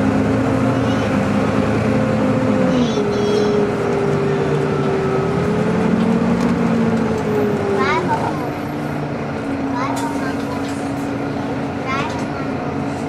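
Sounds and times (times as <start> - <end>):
bus engine whine: 0.0 - 13.0.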